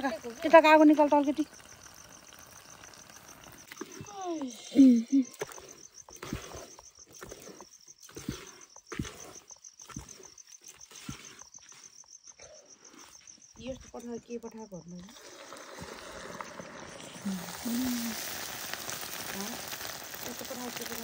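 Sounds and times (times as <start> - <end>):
cricket trilling: 0.0 - 21.0.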